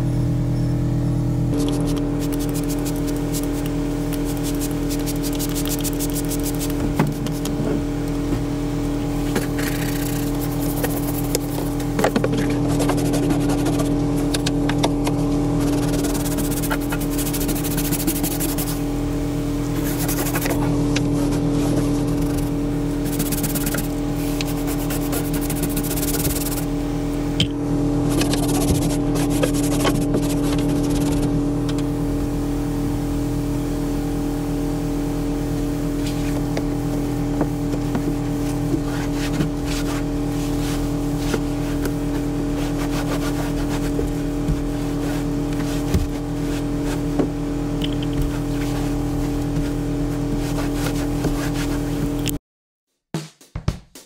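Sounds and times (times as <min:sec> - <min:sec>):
steady machine hum: 0:00.0 - 0:52.4.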